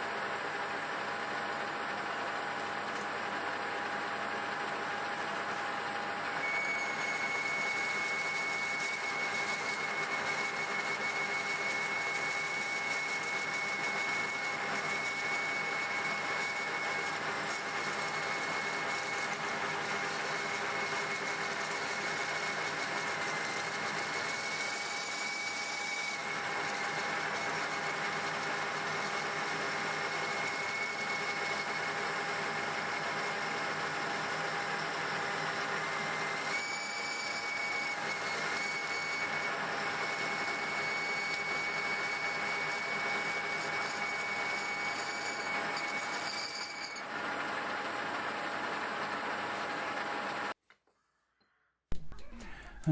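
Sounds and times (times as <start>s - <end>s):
metal lathe whining: 0.2s - 50.5s
metal cutting noise: 1.8s - 50.0s.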